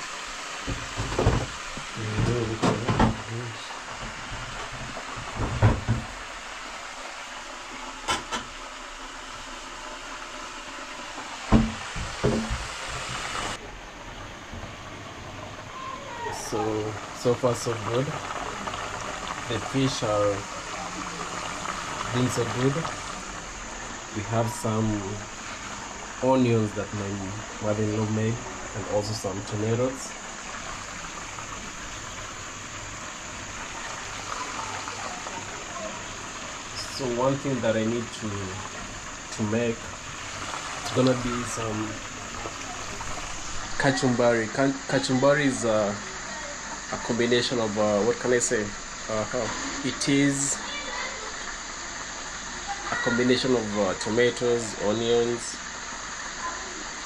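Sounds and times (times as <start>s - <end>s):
fish sizzling in hot oil: 0.0s - 57.0s.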